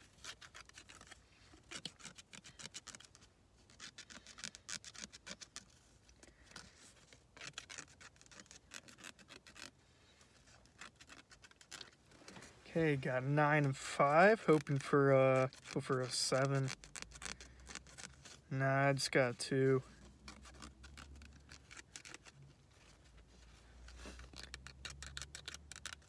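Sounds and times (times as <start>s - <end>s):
scratching lottery ticket coating: 0.0s - 9.8s, 10.4s - 12.4s, 13.0s - 22.6s, 23.2s - 26.0s.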